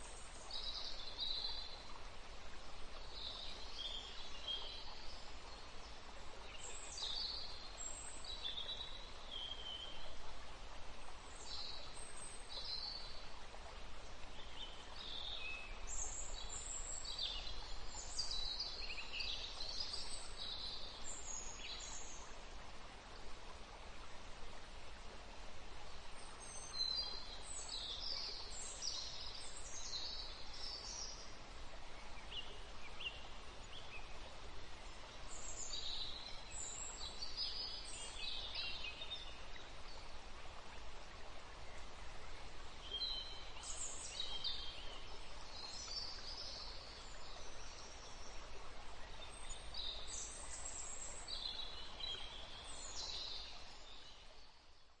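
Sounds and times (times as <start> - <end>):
low background hiss: 0.0 - 55.0.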